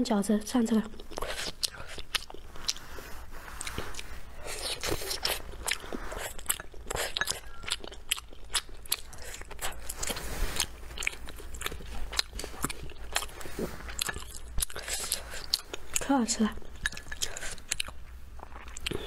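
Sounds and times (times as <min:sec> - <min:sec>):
person biting and chewing food: 0:01.0 - 0:16.0, 0:16.7 - 0:19.0.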